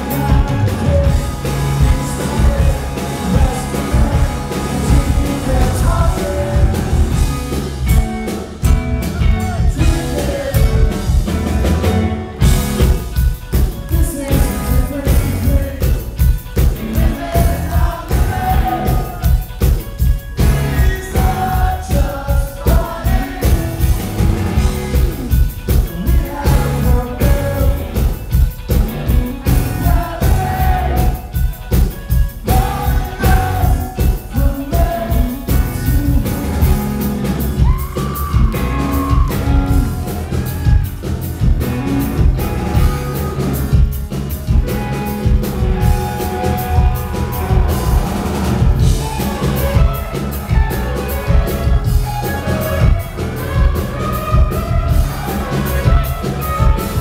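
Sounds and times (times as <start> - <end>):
man singing: 0.0 - 7.5, 9.1 - 11.4, 13.5 - 40.1, 45.8 - 57.0
live rock band: 0.0 - 57.0
steady drum beat: 0.0 - 57.0.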